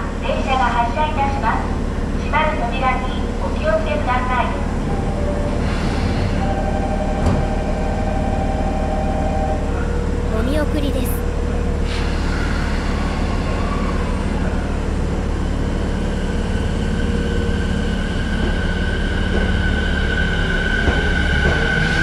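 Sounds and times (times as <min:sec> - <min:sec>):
electric train rumbling and whining: 0:00.0 - 0:10.3, 0:11.4 - 0:22.0.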